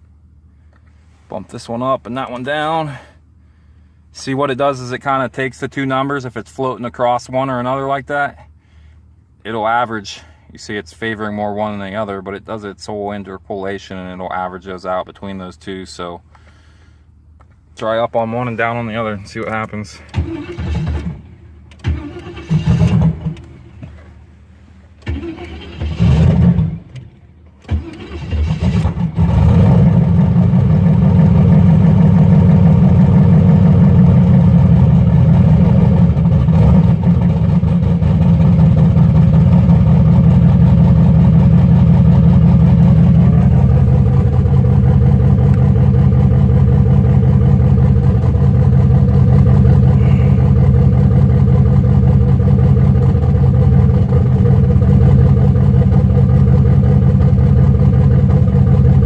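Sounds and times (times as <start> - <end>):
car engine cranking and idling: 0.0 - 59.0.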